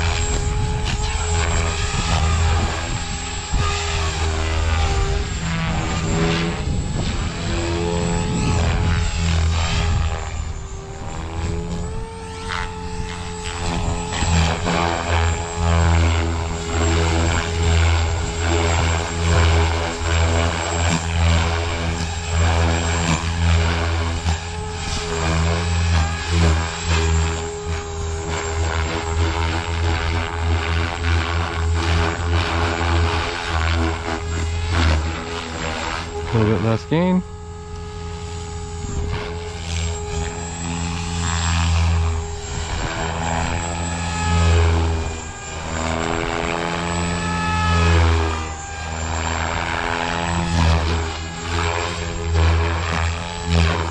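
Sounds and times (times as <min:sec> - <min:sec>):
electric motor whine: 0:00.0 - 0:53.9
helicopter rotor drone: 0:00.0 - 0:53.9.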